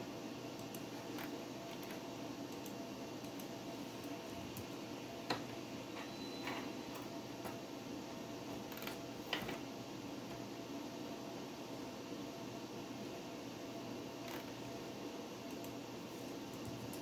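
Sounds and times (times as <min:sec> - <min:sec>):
computer fan hum: 0:00.0 - 0:17.0.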